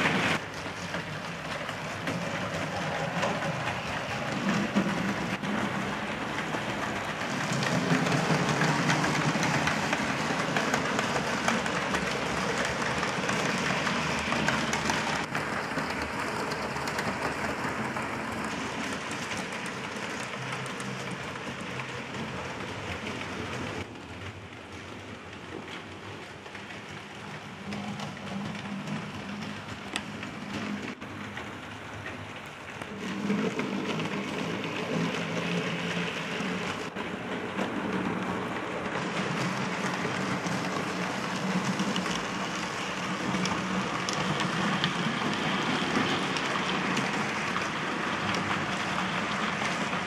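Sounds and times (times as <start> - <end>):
model train wheels clattering on rail: 0.0 - 50.0.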